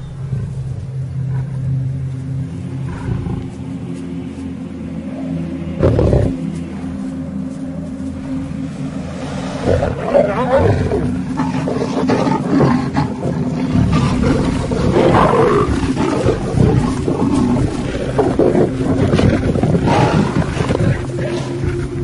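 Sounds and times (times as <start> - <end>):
lions snarling and growling: 0.1 - 3.8, 5.0 - 6.6, 9.0 - 22.0.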